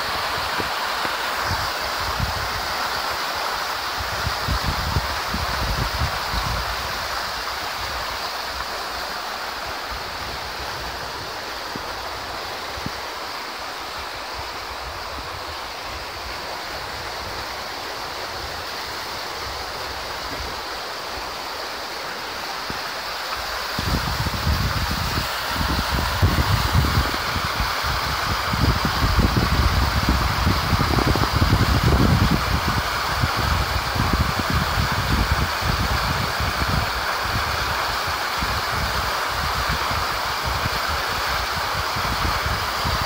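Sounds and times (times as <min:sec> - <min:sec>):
river rushing over rocks: 0:00.0 - 0:43.0
wind rumbling on microphone: 0:00.0 - 0:43.0.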